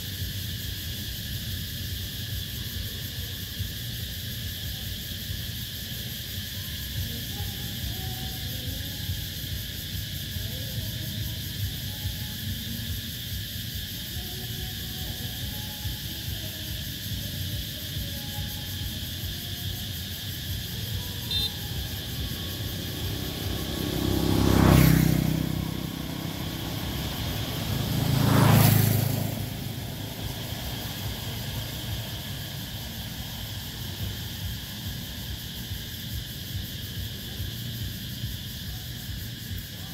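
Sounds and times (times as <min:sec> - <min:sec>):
cicadas shrilling: 0:00.0 - 0:39.9
vehicles passing: 0:00.0 - 0:39.9.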